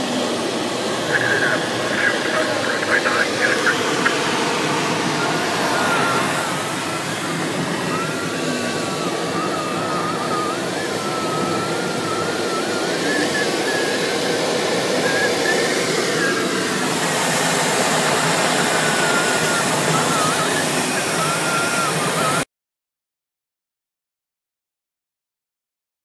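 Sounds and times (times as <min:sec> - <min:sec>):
airflow rushing over cockpit: 0:00.0 - 0:22.4.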